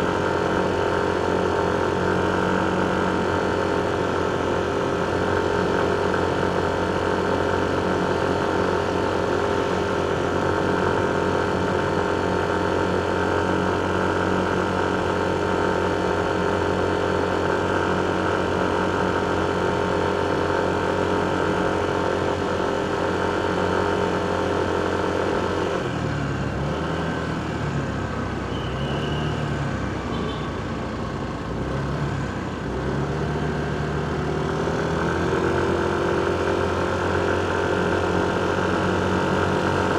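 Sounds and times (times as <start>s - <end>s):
motorcycle engine running: 0.0s - 28.0s, 30.1s - 39.9s.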